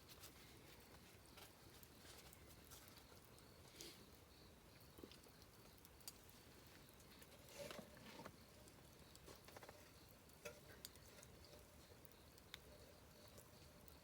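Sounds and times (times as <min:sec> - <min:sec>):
fire soft hiss: 0:00.0 - 0:14.0
campfire pops and snaps: 0:00.9 - 0:14.0.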